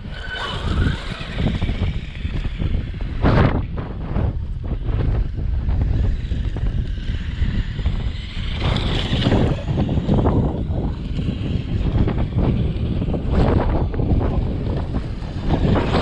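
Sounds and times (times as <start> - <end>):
rc truck running on gravel: 0.0 - 16.0
wind buffeting microphone: 0.0 - 16.0.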